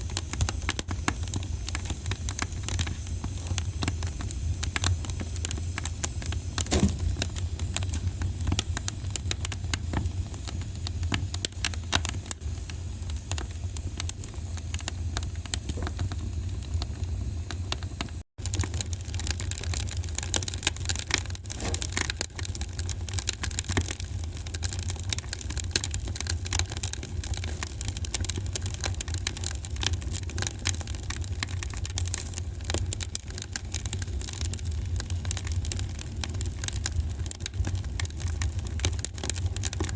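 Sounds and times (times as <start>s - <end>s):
fire popping and snapping: 0.0s - 39.9s
low fire rumble: 0.0s - 39.9s
wood fire crackling: 0.0s - 39.9s.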